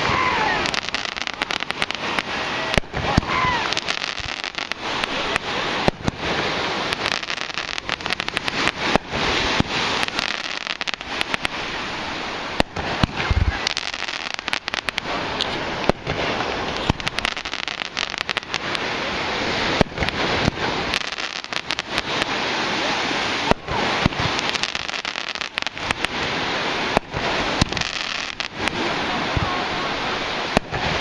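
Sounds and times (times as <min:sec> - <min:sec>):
continuous hiss: 0:00.0 - 0:31.0
fireworks bangs and cracks: 0:00.0 - 0:31.0.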